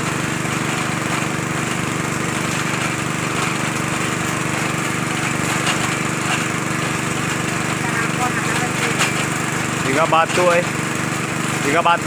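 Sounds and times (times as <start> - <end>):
drilling rig engine running: 0.0 - 12.0.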